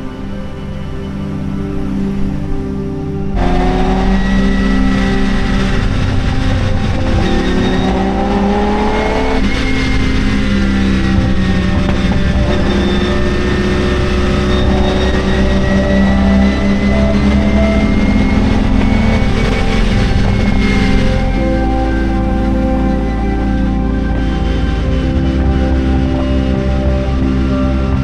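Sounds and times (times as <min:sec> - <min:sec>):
car engine accelerating hard: 0:03.3 - 0:28.0.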